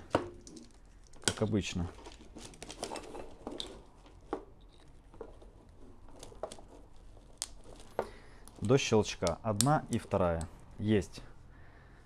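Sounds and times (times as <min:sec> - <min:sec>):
cables rustling: 0:00.0 - 0:10.8
faint clicks and scrapes: 0:00.4 - 0:10.5.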